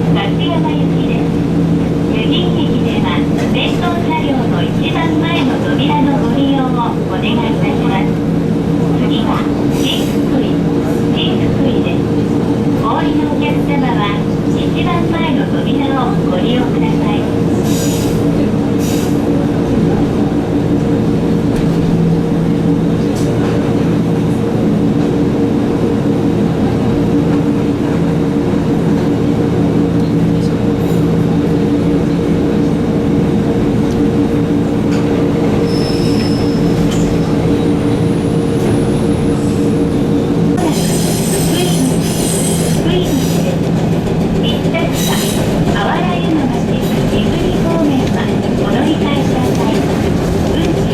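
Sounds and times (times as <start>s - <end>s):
train wheels on rail: 0.0s - 50.9s.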